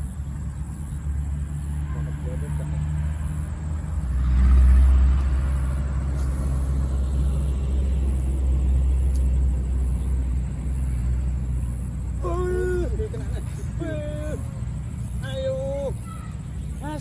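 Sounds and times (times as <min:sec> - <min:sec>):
low traffic rumble: 0:00.0 - 0:17.0
vehicle passing: 0:00.0 - 0:17.0.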